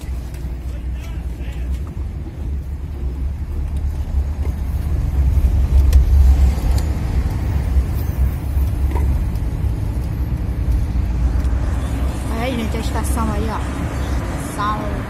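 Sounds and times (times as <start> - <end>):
car interior driving rumble: 0.0 - 15.0.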